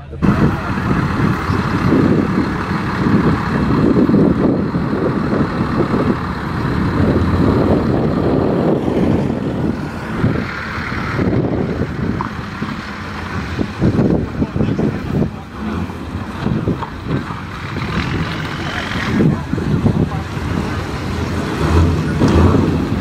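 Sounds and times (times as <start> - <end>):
pickup truck engine running: 0.0 - 23.0.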